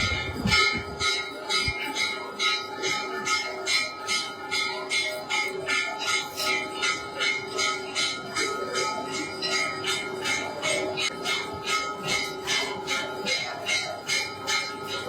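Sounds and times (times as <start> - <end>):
metal bells struck: 0.0 - 15.0.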